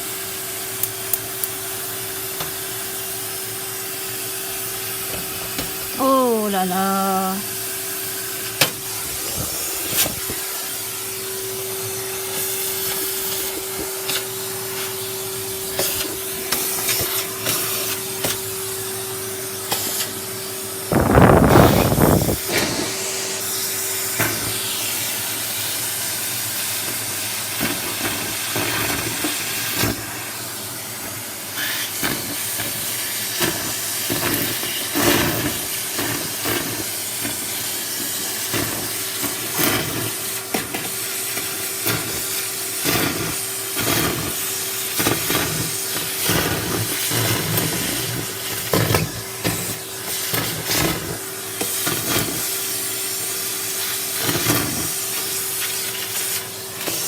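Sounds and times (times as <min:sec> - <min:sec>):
soup boiling with hissing steam: 0:00.0 - 0:57.0.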